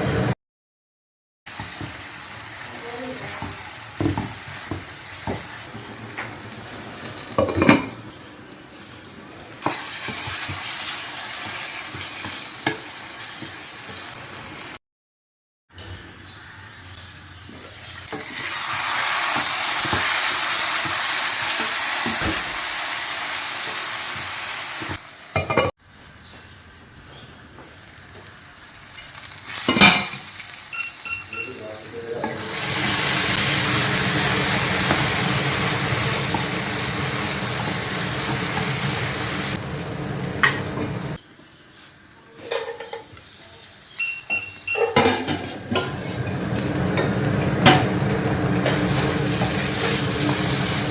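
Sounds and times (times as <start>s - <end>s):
food sizzling in a pan: 1.5s - 14.8s, 17.6s - 25.8s, 27.6s - 41.2s, 43.2s - 50.9s.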